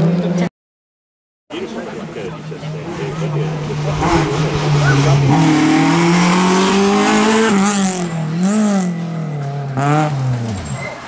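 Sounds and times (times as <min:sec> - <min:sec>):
rally car engine revving: 0:01.6 - 0:11.0.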